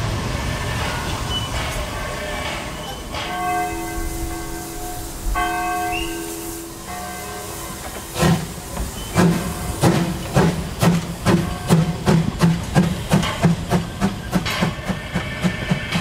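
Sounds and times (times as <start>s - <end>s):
steam hiss: 0.0s - 16.0s
steam locomotive exhaust chuffs: 0.0s - 16.0s.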